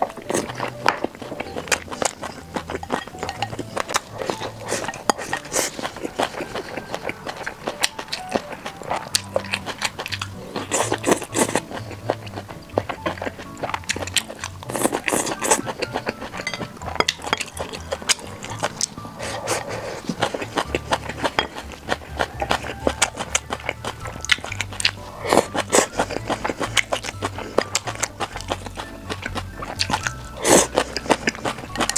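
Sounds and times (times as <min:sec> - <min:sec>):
background music: 0:00.0 - 0:31.9
chewing: 0:00.0 - 0:31.9.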